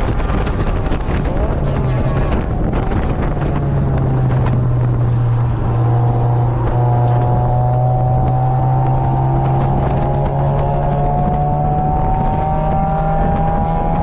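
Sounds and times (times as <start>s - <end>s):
car engine at high revs: 0.0s - 14.0s
wind noise on microphone: 0.0s - 14.0s.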